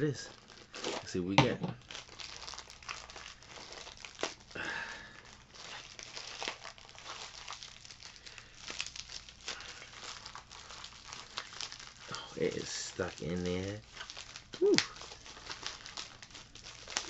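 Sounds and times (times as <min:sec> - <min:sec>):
plastic wrapping crinkling and tearing: 0:00.0 - 0:17.0.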